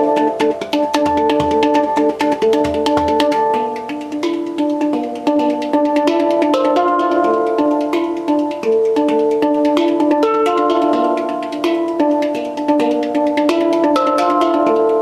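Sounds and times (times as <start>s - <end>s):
held chords: 0.0s - 15.0s
ticking beat: 0.0s - 15.0s.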